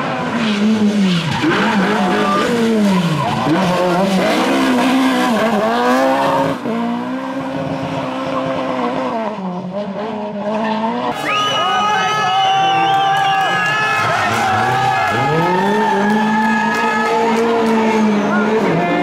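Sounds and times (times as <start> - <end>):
rally car engine revving: 0.0 - 11.6, 12.6 - 19.0.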